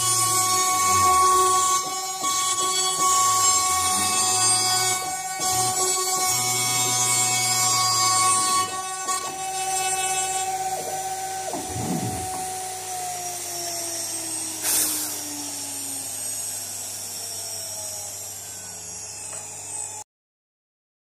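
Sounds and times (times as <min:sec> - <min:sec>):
spindle whining as it winds down: 0:00.0 - 0:20.0.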